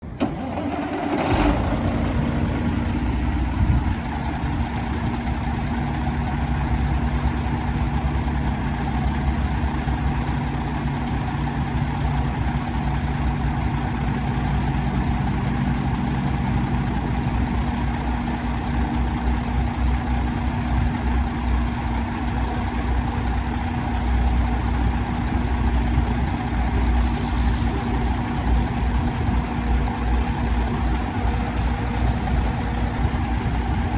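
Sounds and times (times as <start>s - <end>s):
diesel truck engine idling: 0.2s - 33.9s.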